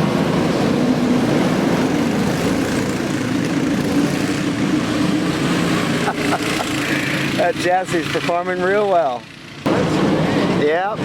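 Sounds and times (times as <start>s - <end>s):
small kart engine running: 0.0s - 11.0s.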